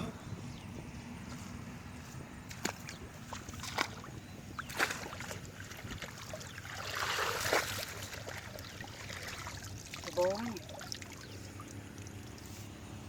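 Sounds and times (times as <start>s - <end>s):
water splashing and sloshing: 1.2s - 13.0s.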